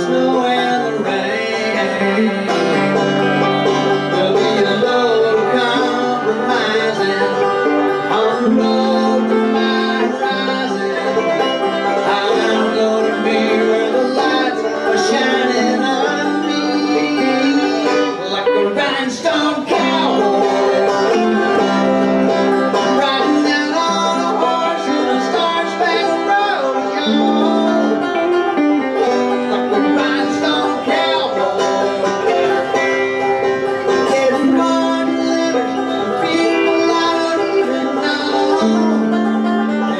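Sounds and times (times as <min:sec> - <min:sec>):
banjo picking: 0:00.0 - 0:39.9
electric guitar: 0:00.0 - 0:39.9.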